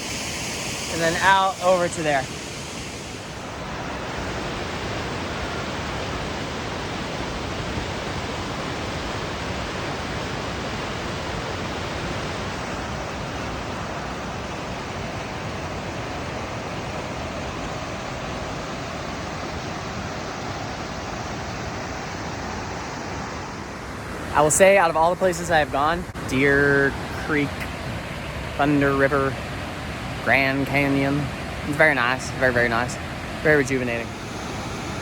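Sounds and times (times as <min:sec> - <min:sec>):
rushing water roar: 0:00.0 - 0:35.0.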